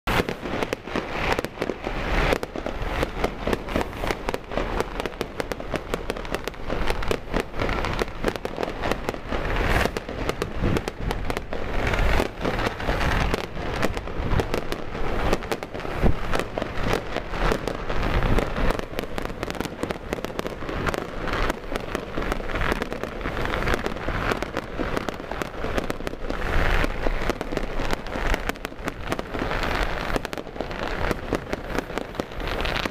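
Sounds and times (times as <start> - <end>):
firecrackers popping: 0.1 - 32.9.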